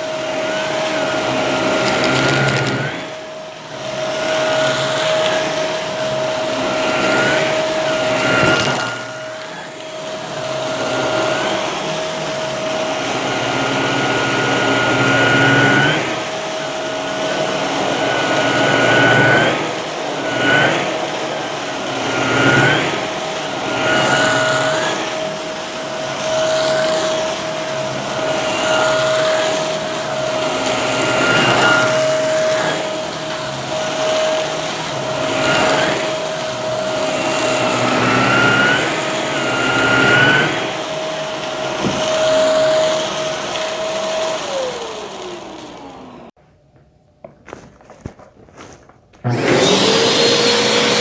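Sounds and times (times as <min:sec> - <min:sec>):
vacuum cleaner motor whine: 0:00.0 - 0:46.4, 0:49.2 - 0:51.0
vacuum sucking up crunchy debris: 0:00.1 - 0:46.3.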